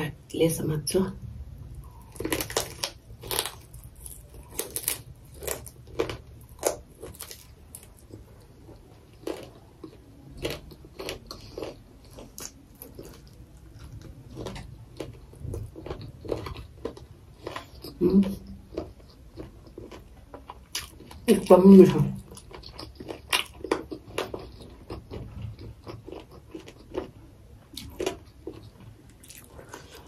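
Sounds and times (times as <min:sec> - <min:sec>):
crunchy biting and chewing: 0:01.8 - 0:21.3, 0:22.2 - 0:30.0.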